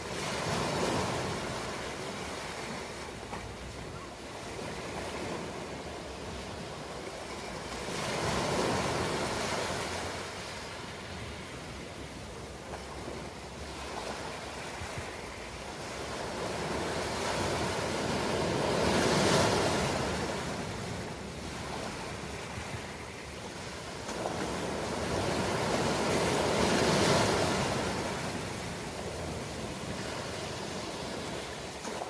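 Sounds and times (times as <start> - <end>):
ocean waves breaking on shore: 0.0 - 32.0.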